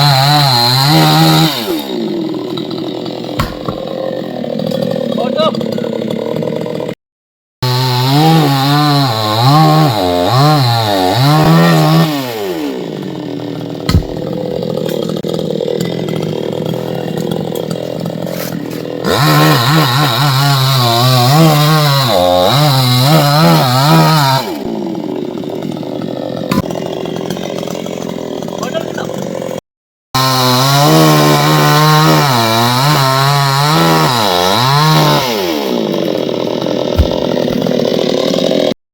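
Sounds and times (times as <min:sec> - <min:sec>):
chainsaw cutting wood: 0:00.0 - 0:07.0, 0:07.6 - 0:29.6, 0:30.2 - 0:38.8.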